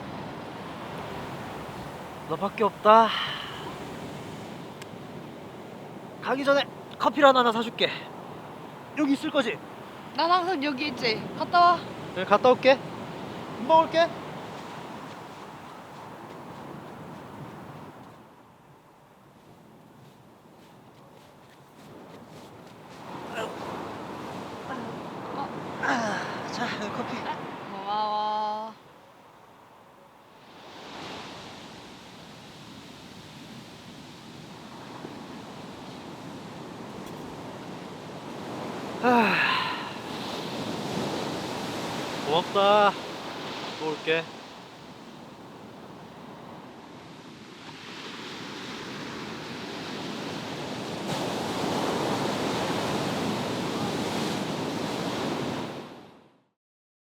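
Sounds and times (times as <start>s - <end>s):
ocean waves washing ashore: 0.0s - 56.4s.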